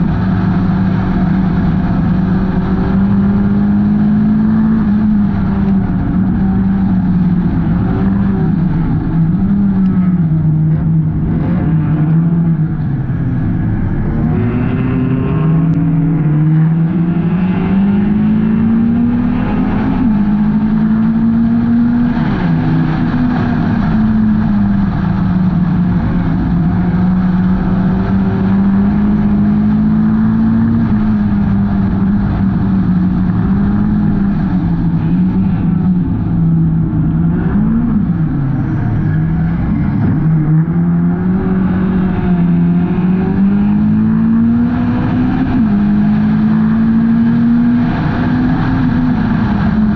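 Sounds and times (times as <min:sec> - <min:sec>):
race car engine revving: 0:00.0 - 0:49.9
steady rushing noise: 0:00.0 - 0:49.9.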